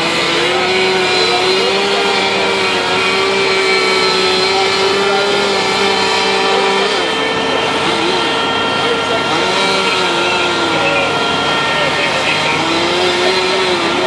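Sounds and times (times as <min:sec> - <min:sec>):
engine droning at high speed: 0:00.0 - 0:14.0.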